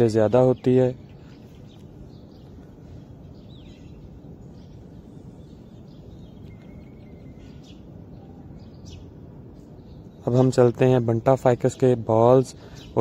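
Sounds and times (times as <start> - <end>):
steady low rumble: 0.0 - 13.0
faint bird chirps: 0.4 - 13.0.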